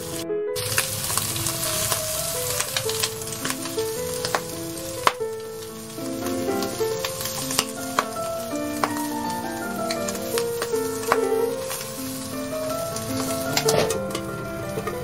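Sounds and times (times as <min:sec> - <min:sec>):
background music: 0:00.0 - 0:15.0
squid sizzling in frying pan: 0:00.0 - 0:15.0.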